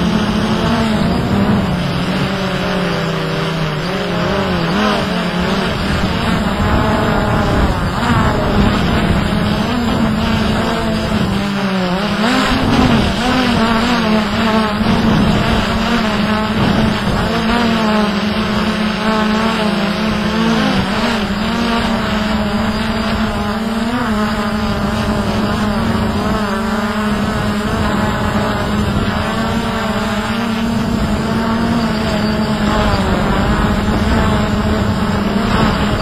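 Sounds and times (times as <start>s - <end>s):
drone propellers whining: 0.0s - 36.0s.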